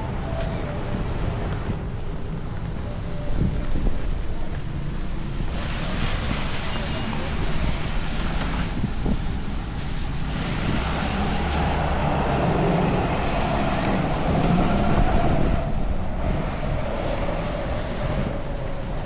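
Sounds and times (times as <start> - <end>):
rain: 0.0 - 19.0.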